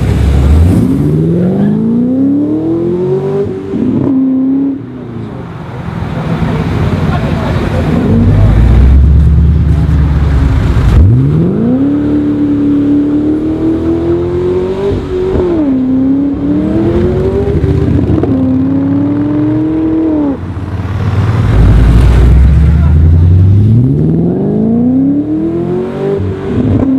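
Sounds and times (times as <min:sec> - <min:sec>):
car engine accelerating hard: 0:00.0 - 0:26.9.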